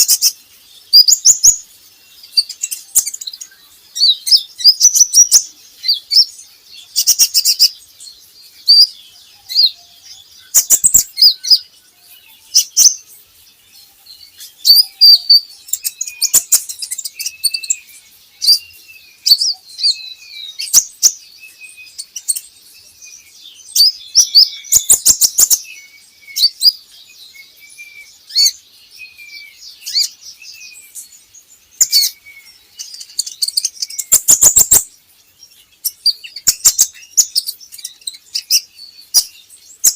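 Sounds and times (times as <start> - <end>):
sunbird chirps and trills: 0.0 - 39.9.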